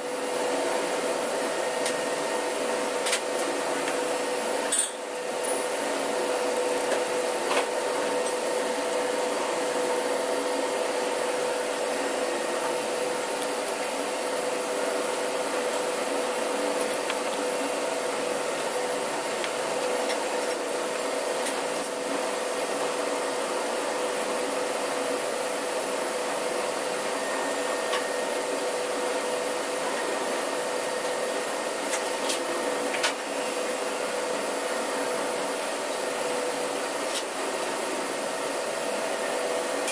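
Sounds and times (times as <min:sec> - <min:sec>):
machinery and ventilation hum: 0:00.0 - 0:39.9.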